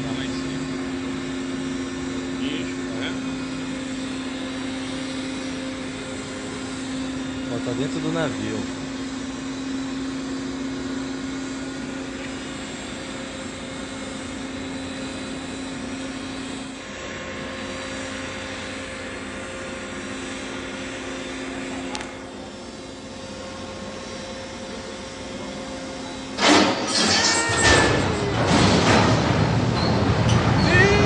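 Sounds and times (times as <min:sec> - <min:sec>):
crane machinery drone: 0:00.0 - 0:31.0.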